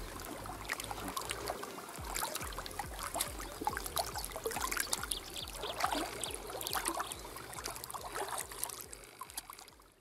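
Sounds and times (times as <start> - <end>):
water lapping and splashing: 0.0 - 10.0.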